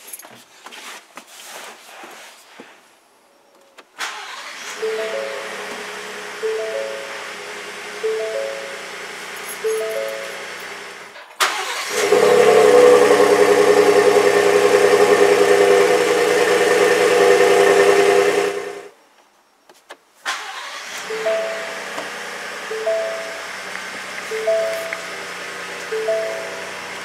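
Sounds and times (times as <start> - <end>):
truck engine starting and running: 4.0 - 18.9, 20.3 - 27.0.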